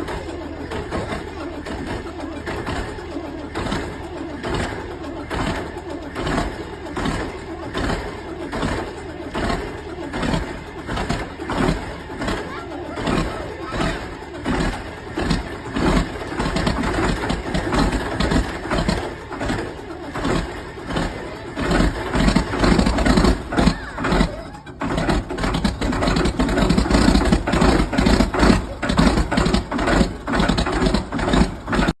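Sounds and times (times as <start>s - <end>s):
tractor engine cranking with starter: 0.0s - 32.0s.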